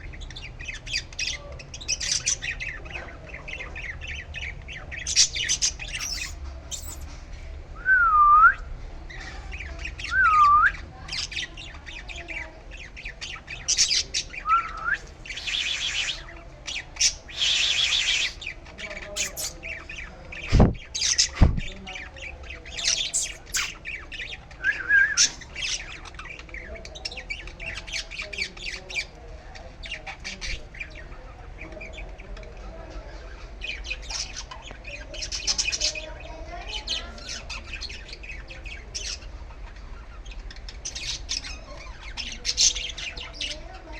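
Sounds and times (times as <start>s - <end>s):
young birds chirping: 0.0s - 7.4s, 9.1s - 43.9s.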